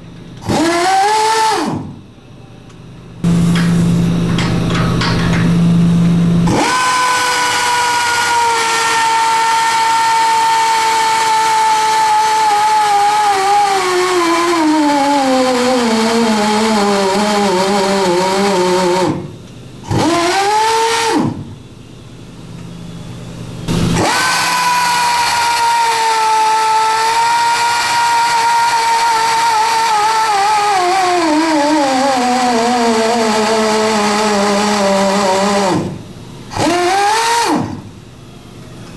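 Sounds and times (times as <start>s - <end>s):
powered tube roller motor whining: 0.0s - 2.1s, 3.2s - 21.6s, 23.6s - 38.0s.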